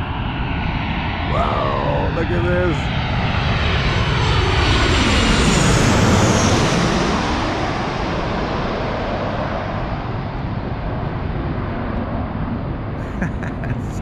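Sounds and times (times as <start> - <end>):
jet airliner passing overhead: 0.0 - 14.0.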